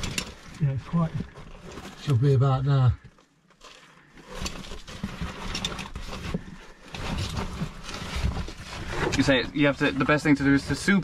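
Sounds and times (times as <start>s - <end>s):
clothing scraping against rock: 0.0s - 2.8s, 3.5s - 11.0s.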